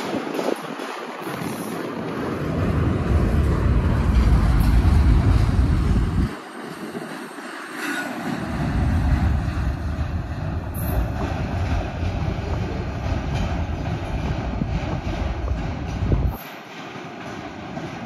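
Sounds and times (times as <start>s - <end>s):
wind buffeting microphone: 0.0s - 7.5s, 8.2s - 18.0s
freight train wheels on rails: 0.0s - 18.0s.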